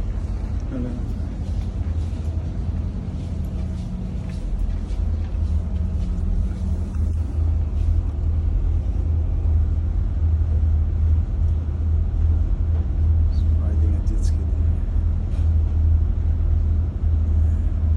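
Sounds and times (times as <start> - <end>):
boat engines droning: 0.0 - 17.9.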